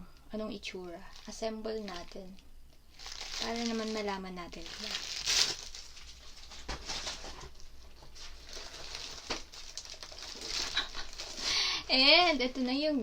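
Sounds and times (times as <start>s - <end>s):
packaging rustling: 1.0s - 12.9s.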